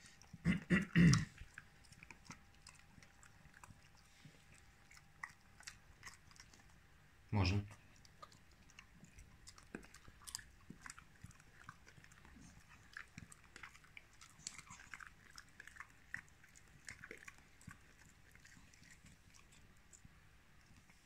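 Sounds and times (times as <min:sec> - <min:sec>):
dog chewing a treat: 0:01.1 - 0:07.0, 0:07.7 - 0:21.0.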